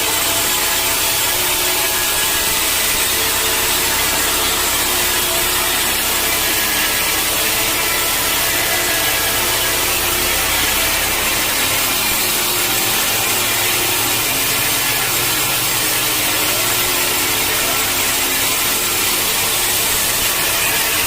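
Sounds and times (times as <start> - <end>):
low machinery hum: 0.0 - 20.9
saw cutting through log: 0.0 - 21.0.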